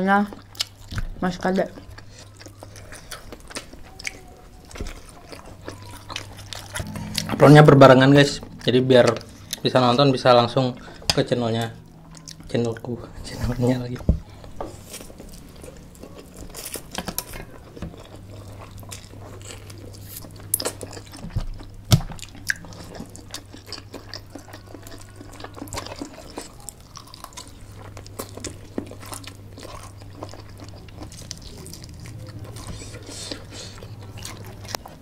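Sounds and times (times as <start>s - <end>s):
people chewing and crunching: 0.0s - 35.0s
low hum: 1.9s - 33.0s.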